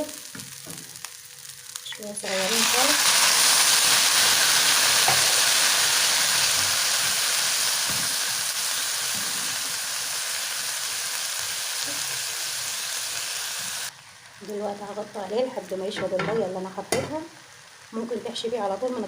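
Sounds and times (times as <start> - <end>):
grain sizzling in hot fat: 0.0 - 19.0.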